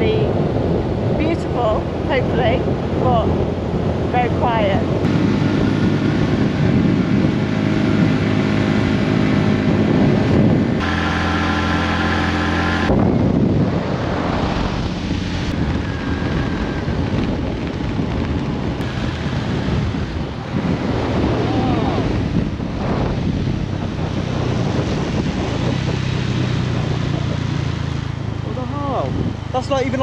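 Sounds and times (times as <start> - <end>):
motorcycle engine cruising: 0.0 - 30.0
wind buffeting microphone: 0.0 - 30.0.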